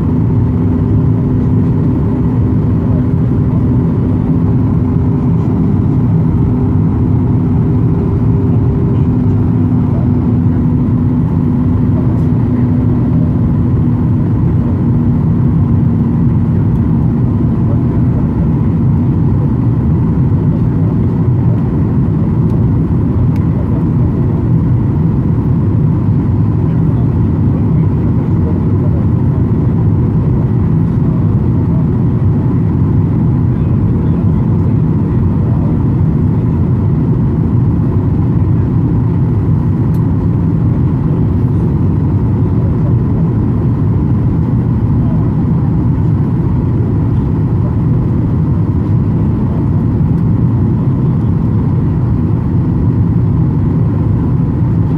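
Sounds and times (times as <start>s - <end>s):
airliner engine drone in cabin: 0.0s - 54.9s.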